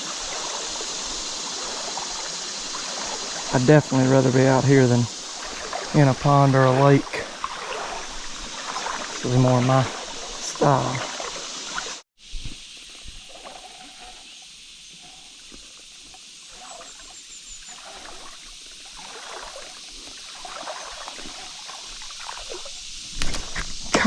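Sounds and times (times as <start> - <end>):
creek running water: 0.0 - 24.0
soft water splashes: 0.0 - 24.0.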